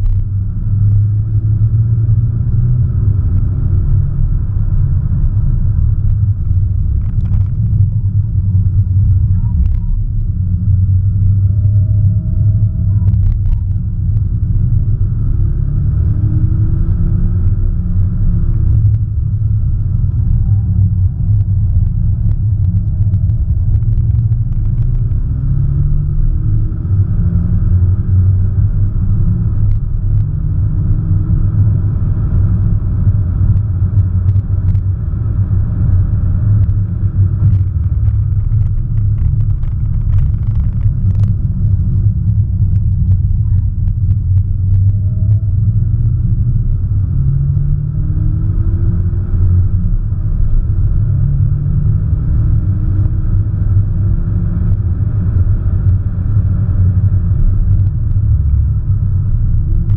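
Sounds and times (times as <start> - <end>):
car engine rumbling: 0.0 - 59.9
tyre and road noise: 0.0 - 59.9.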